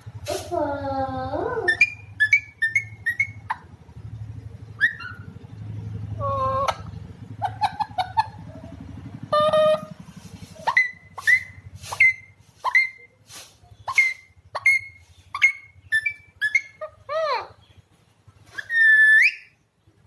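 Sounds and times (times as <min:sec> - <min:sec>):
parakeet calling: 0:01.5 - 0:17.8, 0:18.4 - 0:19.7.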